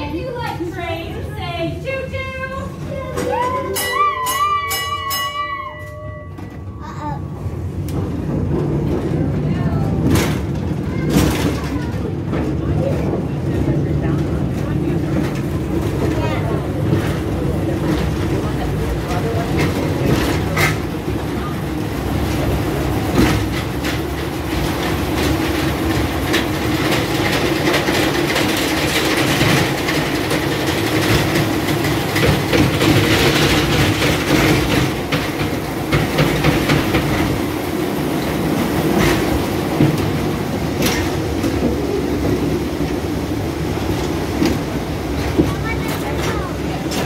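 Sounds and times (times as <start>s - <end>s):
ride cars rumbling on track: 0.0s - 47.0s
wheels clacking: 0.0s - 47.0s.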